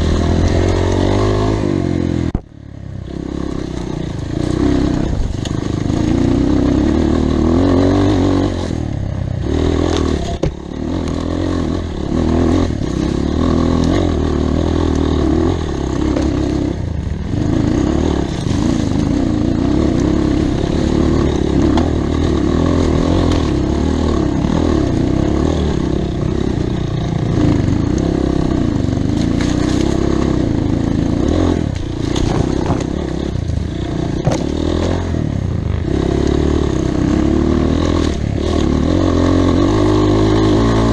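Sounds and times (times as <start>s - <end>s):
off-road motorcycle engine revving: 0.0s - 40.9s.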